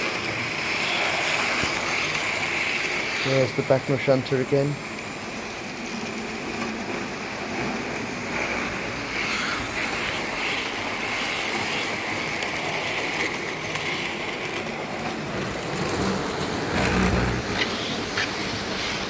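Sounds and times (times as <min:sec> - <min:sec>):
model train motor whine: 0:00.0 - 0:19.0
train wheel rumble: 0:00.0 - 0:19.0.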